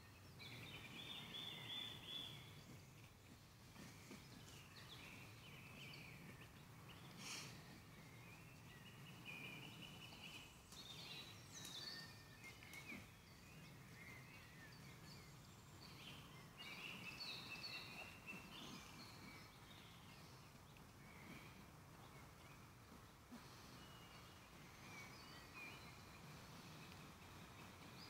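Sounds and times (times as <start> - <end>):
birds trilling and chirping: 0.0 - 28.0
low steady background hum: 0.0 - 28.0.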